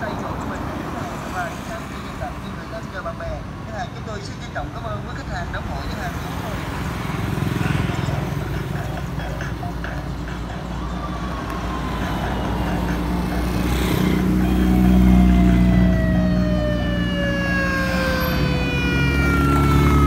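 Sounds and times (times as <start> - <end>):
motorbikes and cars passing: 0.0 - 20.0.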